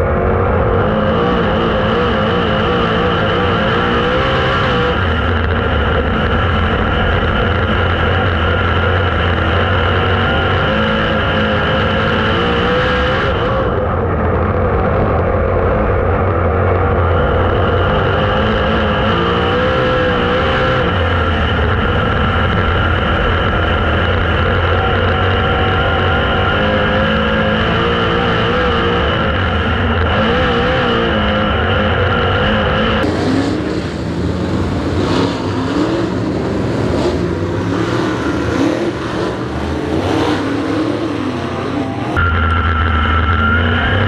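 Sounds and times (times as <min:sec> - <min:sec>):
race car engines running hard: 0:00.0 - 0:44.0.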